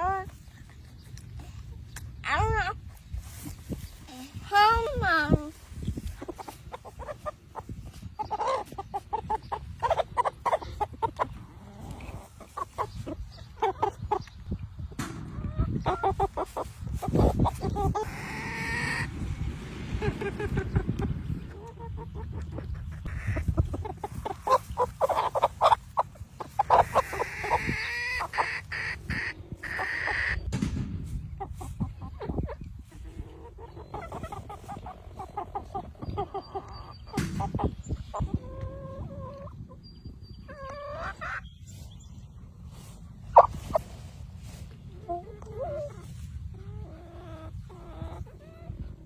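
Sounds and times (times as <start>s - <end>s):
fowl clucking and calling: 5.9s - 30.6s, 31.3s - 41.9s, 42.8s - 49.0s.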